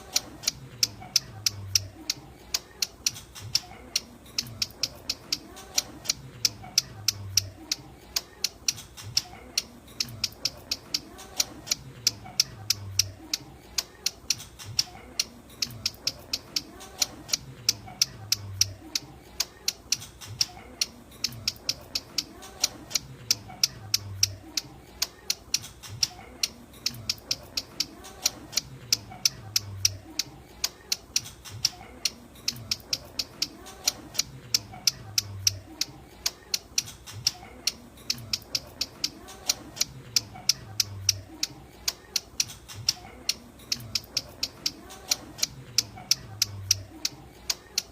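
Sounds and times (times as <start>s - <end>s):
bird clicking chip notes: 0.0s - 47.9s.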